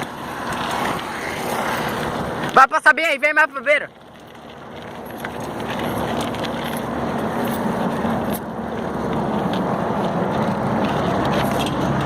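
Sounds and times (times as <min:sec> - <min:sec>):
motor vehicle passing: 0:00.0 - 0:12.0.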